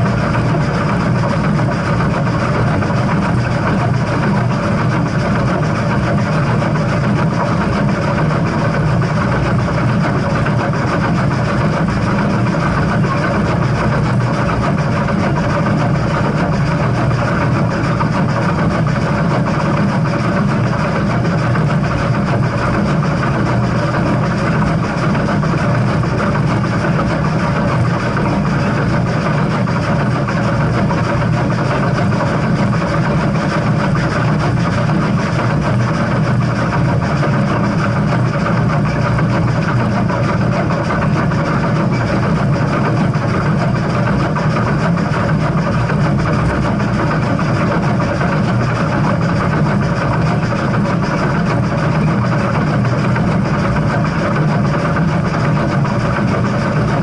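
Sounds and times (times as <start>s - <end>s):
train running low rumble: 0.0s - 57.0s.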